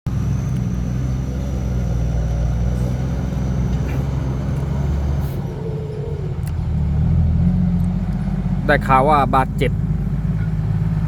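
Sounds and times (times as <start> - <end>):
heavy diesel engine running: 0.1 - 11.0.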